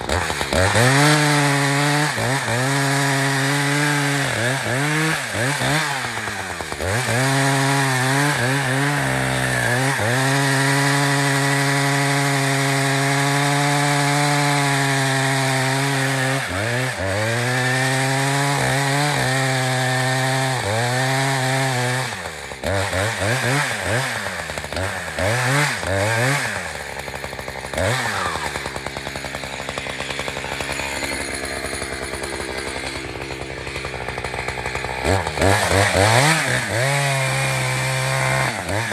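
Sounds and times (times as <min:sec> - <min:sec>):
chainsaw cutting wood: 0:00.0 - 0:38.9
chainsaw idling: 0:00.0 - 0:38.9
chainsaw throttle blips: 0:00.0 - 0:38.9.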